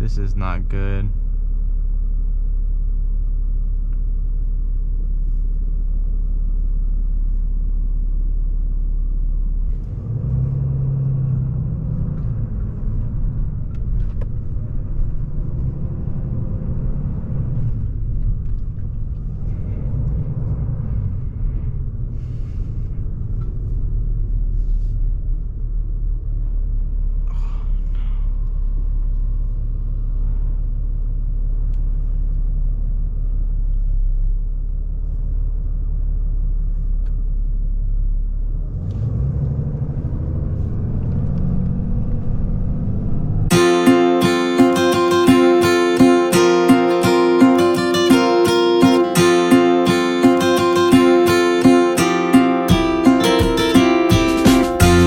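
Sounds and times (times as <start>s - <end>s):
vehicle driving road noise: 0.0s - 55.0s
vehicle engine idling: 0.0s - 55.0s.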